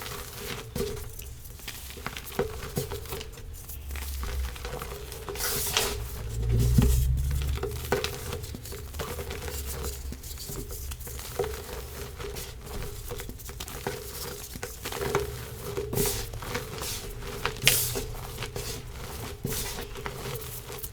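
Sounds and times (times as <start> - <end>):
chalk crunching and crackling: 0.0 - 20.9
low rumble of handling: 0.4 - 20.9.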